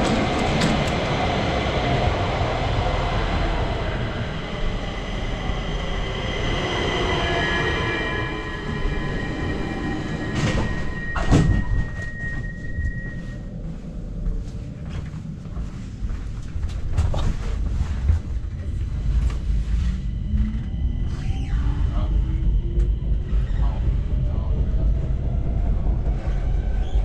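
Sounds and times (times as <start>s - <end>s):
train mechanical rumble: 0.0s - 27.0s.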